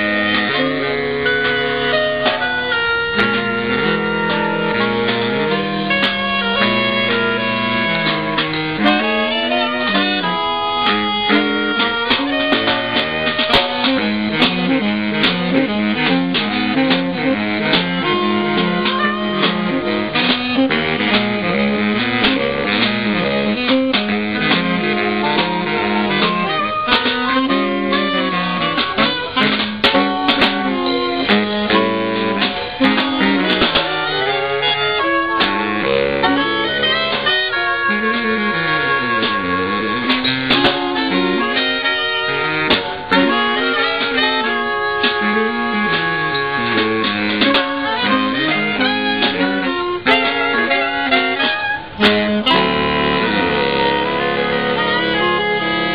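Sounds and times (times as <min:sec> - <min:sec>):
saxophones playing jazz: 0:00.0 - 0:55.9
snare drum beats: 0:01.4 - 0:55.9.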